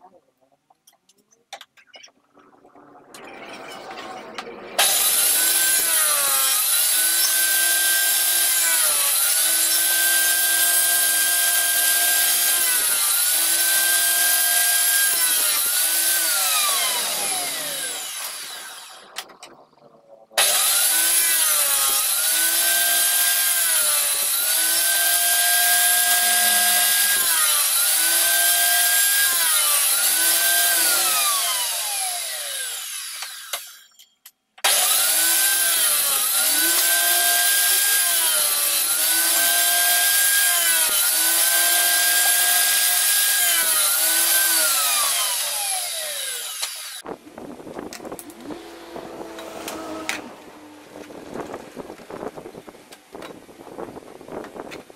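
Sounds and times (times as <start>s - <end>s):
table saw cutting wood: 2.6s - 19.6s, 20.4s - 33.9s, 34.6s - 52.4s.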